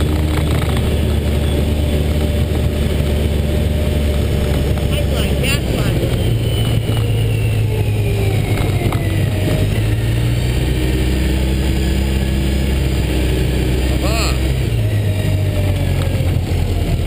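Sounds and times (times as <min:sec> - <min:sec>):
car engine on dirt track: 0:00.0 - 0:17.0.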